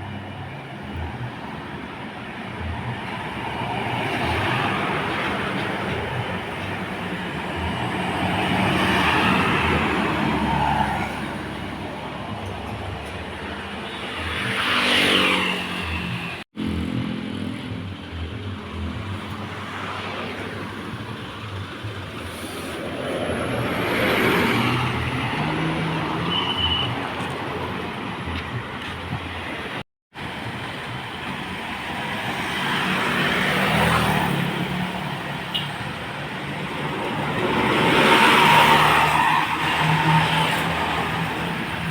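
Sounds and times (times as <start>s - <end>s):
buses driving past: 0.0s - 41.9s.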